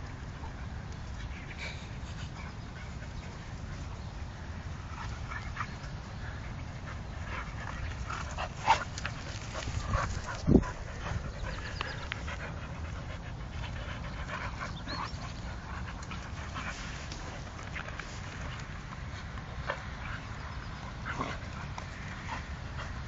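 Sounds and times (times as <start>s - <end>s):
dogs panting and scuffling: 0.0s - 23.0s.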